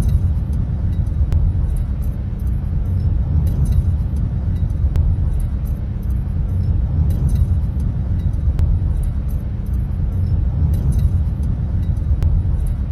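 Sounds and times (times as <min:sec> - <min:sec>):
vehicle driving rumble: 0:00.0 - 0:12.9.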